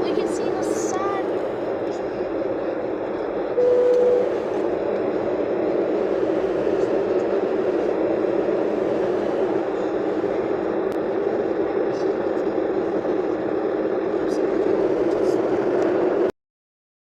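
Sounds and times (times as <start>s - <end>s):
jet engines humming: 0.0s - 16.3s
rushing air in cabin: 0.0s - 16.3s.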